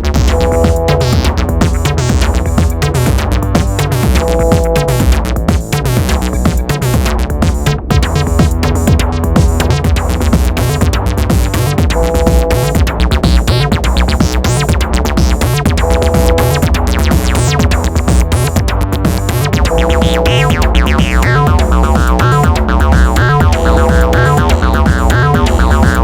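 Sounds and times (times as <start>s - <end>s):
drum machine beat: 0.0s - 26.0s
sharp clicking percussion: 0.0s - 26.0s
synthesizer bassline: 0.0s - 26.0s.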